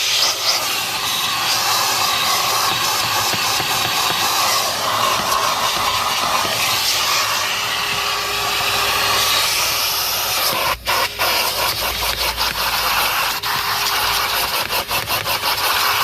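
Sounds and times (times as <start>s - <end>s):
vacuum cleaner hose hissing: 0.0s - 16.0s.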